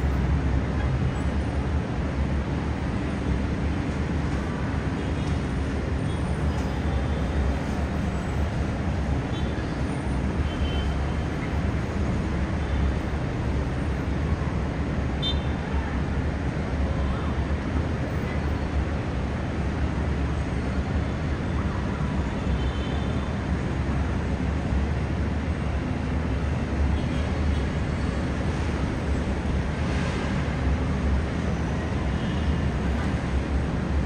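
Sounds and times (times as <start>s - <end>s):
distant heavy traffic rumble: 0.0s - 34.0s.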